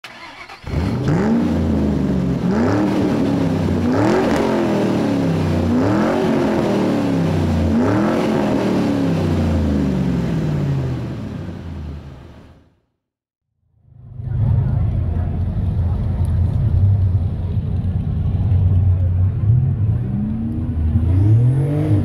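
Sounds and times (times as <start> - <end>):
car engine idling and revving: 0.0 - 12.6, 13.9 - 22.0.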